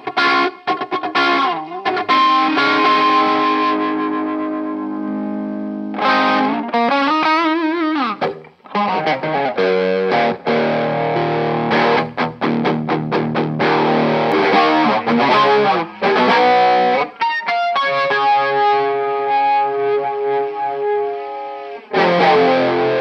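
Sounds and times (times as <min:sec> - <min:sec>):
electric guitar with chorus effect: 0:00.0 - 0:23.0.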